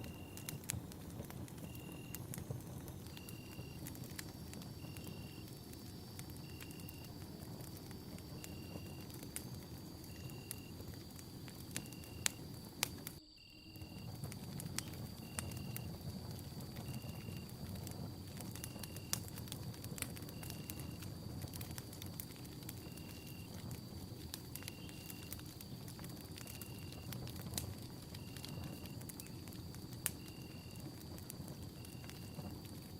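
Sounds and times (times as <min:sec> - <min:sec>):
campfire crackling: 0:00.0 - 0:32.9.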